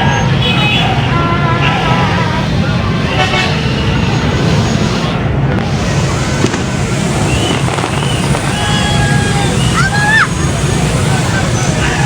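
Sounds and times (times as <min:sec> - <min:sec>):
sharp bangs: 0:00.0 - 0:12.0
street traffic: 0:00.0 - 0:12.0
fireworks crackling and popping: 0:00.2 - 0:12.0.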